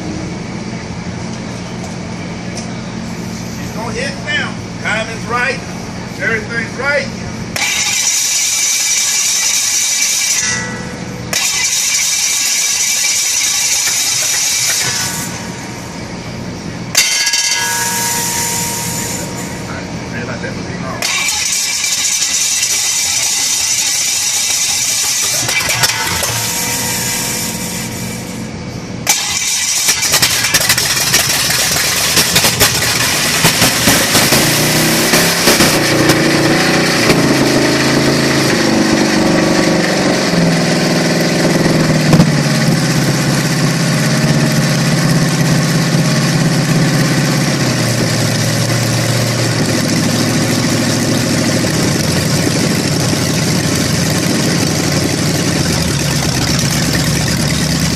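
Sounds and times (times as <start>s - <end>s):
vee-eight engine revving and idling: 0.0s - 57.9s.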